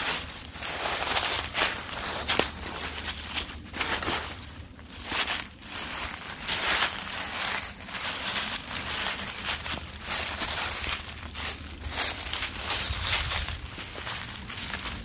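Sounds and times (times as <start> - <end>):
hiking footsteps: 0.0 - 15.0.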